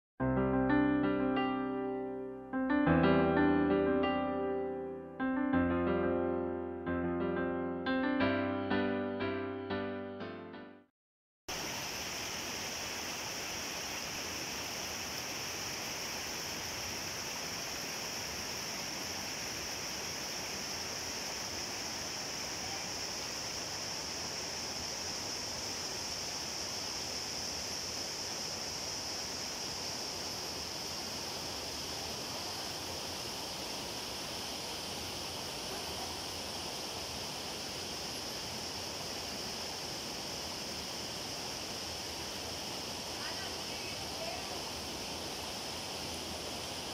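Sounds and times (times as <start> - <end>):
rushing hiss of running water: 0.6 - 6.5, 11.5 - 46.9.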